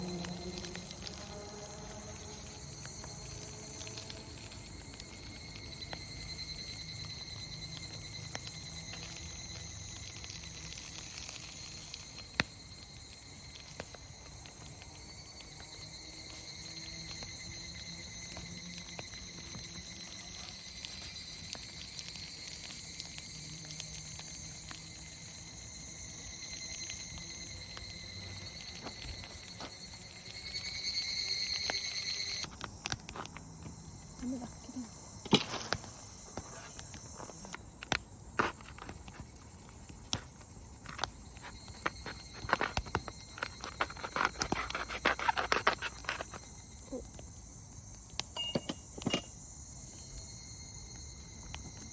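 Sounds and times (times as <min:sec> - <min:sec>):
insects singing: 0:00.0 - 0:51.9.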